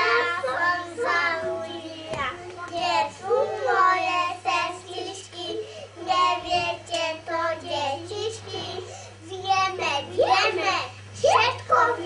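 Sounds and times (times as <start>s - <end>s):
steady low hum: 0.0s - 12.0s
young children singing: 0.0s - 12.0s.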